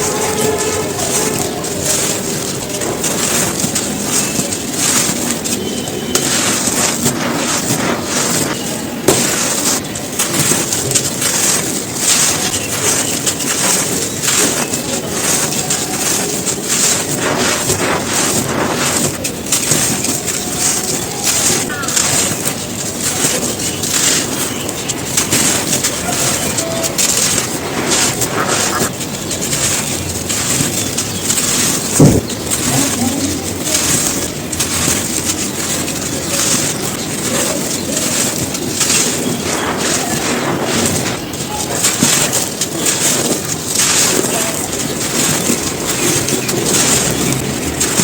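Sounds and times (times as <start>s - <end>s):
dry cones crunching: 0.0s - 48.0s.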